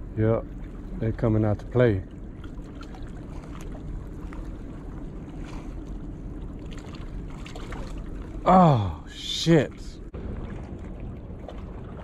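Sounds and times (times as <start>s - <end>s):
lapping water: 2.0s - 12.0s.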